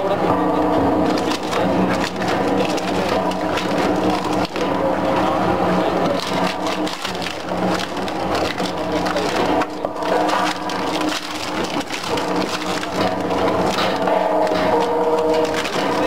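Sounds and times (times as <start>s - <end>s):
shredder machine hum: 0.0s - 16.0s
wood crackling and snapping: 1.0s - 16.0s.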